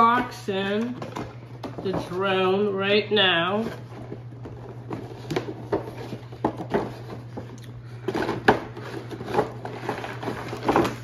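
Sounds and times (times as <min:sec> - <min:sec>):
cardboard and plastic packaging rustling: 0:00.0 - 0:11.0.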